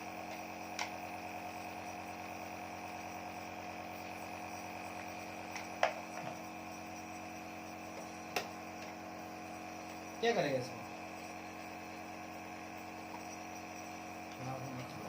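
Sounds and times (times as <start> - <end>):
nebulizer electric hum: 0.0 - 15.0.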